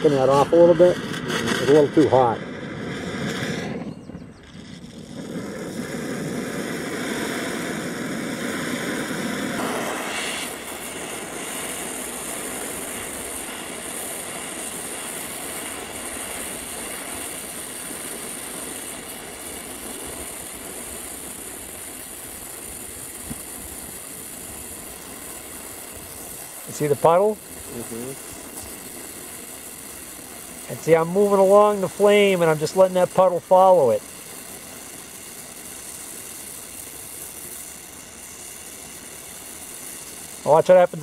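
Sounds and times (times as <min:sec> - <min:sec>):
welding torch hissing: 0:00.0 - 0:41.0.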